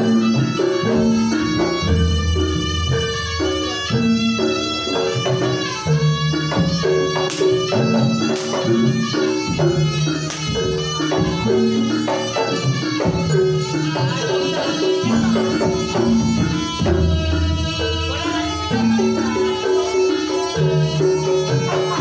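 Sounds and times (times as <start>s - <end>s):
gong-chime percussion melody: 0.0s - 22.0s
hand drums: 0.0s - 22.0s.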